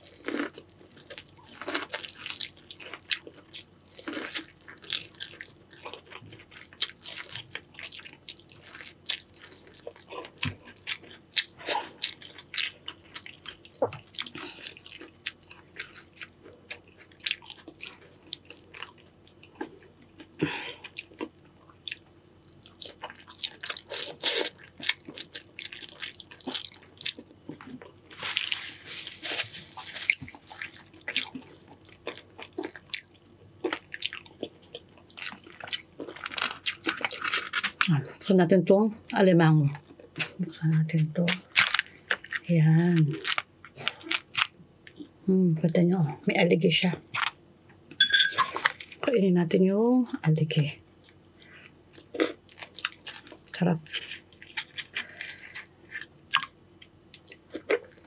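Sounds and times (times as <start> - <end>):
person chewing and crunching: 0.0 - 38.3, 39.7 - 45.1, 47.1 - 49.1, 51.0 - 58.0.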